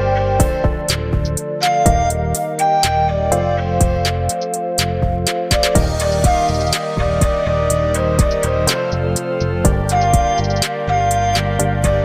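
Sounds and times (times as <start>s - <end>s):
music with keyboard bass and drums: 0.0s - 12.0s.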